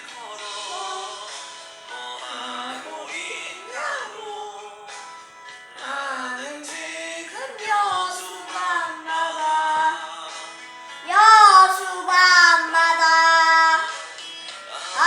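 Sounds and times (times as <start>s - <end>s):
child singing a pop ballad: 0.0s - 15.0s.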